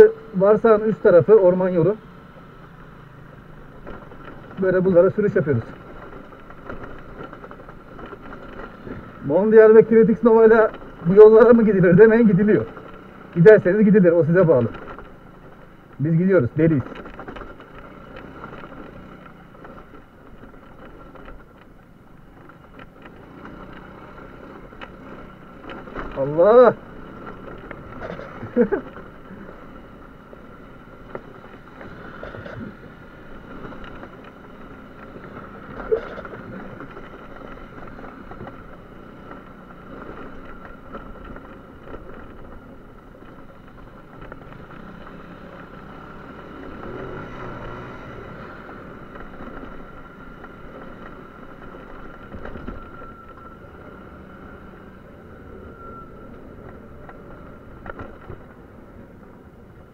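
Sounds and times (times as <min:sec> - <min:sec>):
motor scooter engine running: 0:00.0 - 0:59.9
knocks and clatters: 0:03.5 - 0:53.5, 0:56.6 - 0:59.3.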